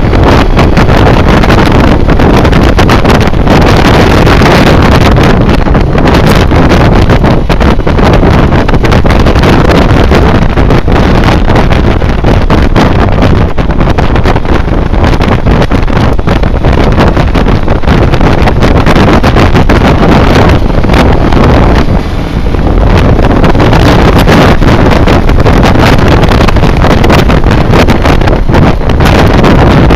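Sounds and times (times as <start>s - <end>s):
motorcycle engine running: 0.0s - 29.9s
wind buffeting microphone: 0.0s - 29.9s.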